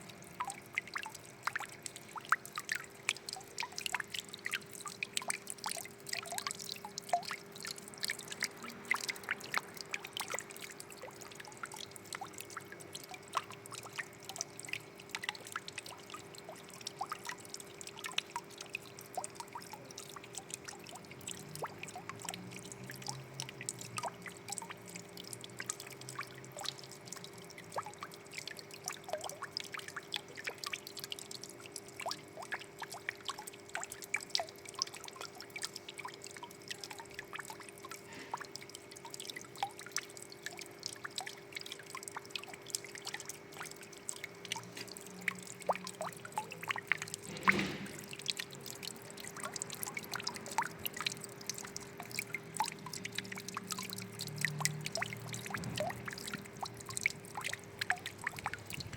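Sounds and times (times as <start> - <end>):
faint steady hum: 0.0 - 58.9
water trickling and dripping: 0.0 - 58.9
water plop: 0.3 - 58.9.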